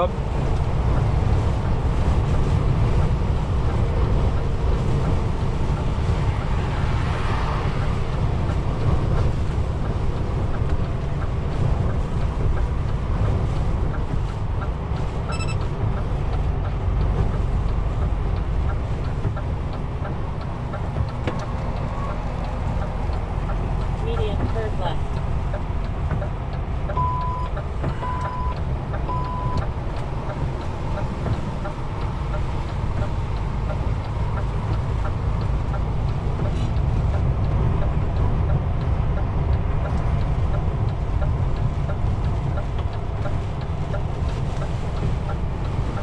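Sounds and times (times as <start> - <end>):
road noise: 0.0 - 46.0
truck engine drone: 0.0 - 46.0.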